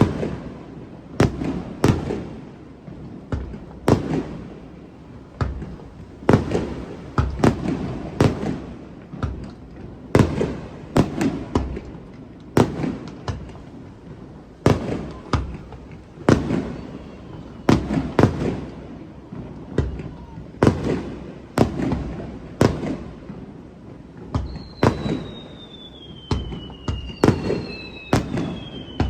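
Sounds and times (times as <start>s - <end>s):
fireworks bangs echoing: 0.0s - 29.0s.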